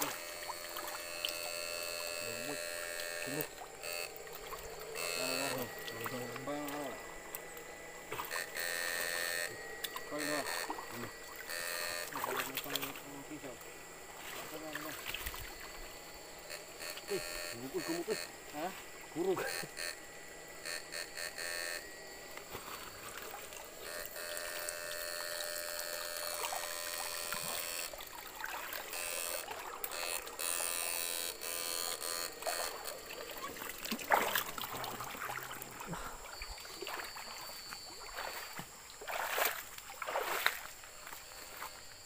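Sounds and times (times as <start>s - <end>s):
wading through shallow stream: 0.0s - 19.9s, 21.5s - 42.0s
steady buzzing tone: 0.0s - 42.0s.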